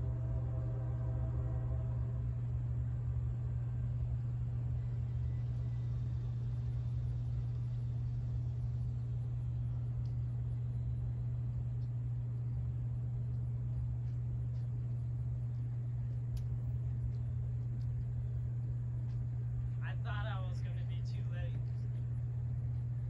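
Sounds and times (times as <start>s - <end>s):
diesel locomotive rumble: 0.0s - 23.0s
faint engine note: 0.0s - 23.0s.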